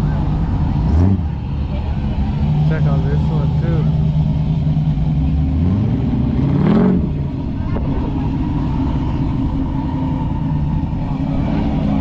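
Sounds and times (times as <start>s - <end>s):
car engine revving: 0.0s - 12.0s
cars driving slowly by: 0.0s - 12.0s.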